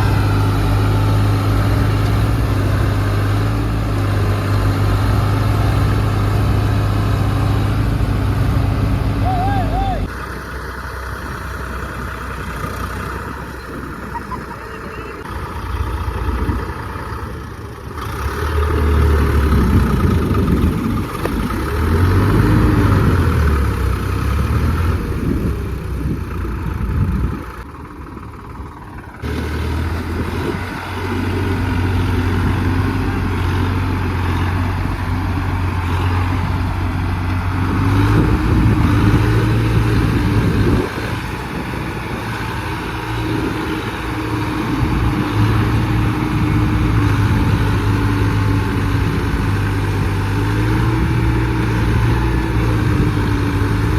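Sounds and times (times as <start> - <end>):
tractor diesel engine revving: 0.0 - 53.9.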